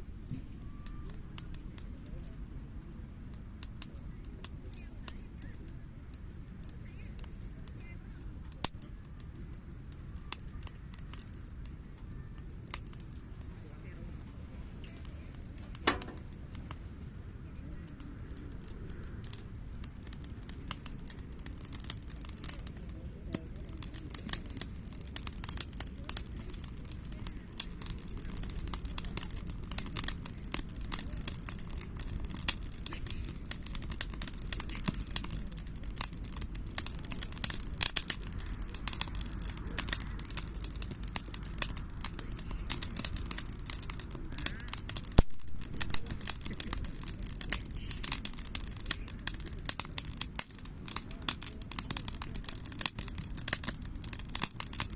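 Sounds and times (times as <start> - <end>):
bonfire crackling and popping: 0.0 - 54.9
low steady rumble: 0.0 - 54.9.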